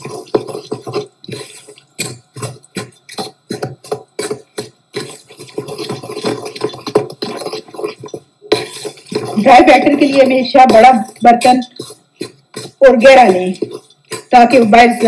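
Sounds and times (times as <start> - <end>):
wooden spoon scraping steel bowl: 0.0 - 15.0.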